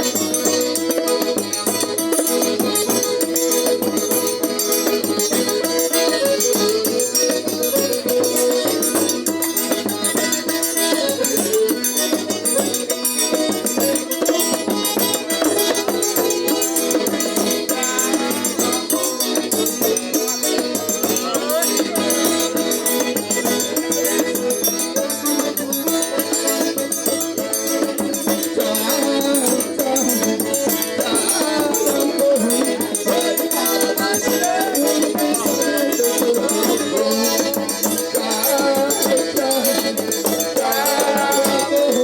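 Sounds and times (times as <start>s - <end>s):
accordion playing a melody: 0.0s - 42.0s.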